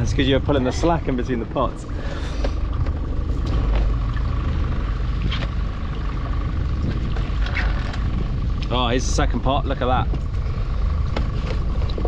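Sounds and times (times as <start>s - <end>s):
boat engine low hum: 0.0s - 12.0s.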